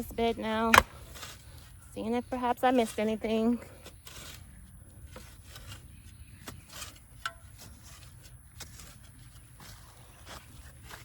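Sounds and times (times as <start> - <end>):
shovel scraping soil: 0.0 - 11.0.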